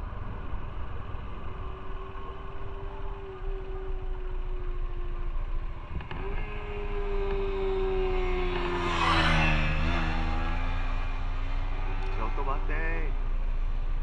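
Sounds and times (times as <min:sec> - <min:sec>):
low rumble of wind and road: 0:00.0 - 0:14.0
motorcycle engine running: 0:00.0 - 0:14.0.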